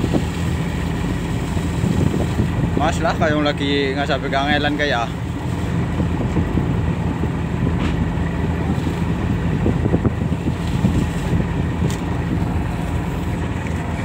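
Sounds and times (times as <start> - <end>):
boat engine droning: 0.0 - 14.0
wind buffeting microphone: 0.0 - 14.0.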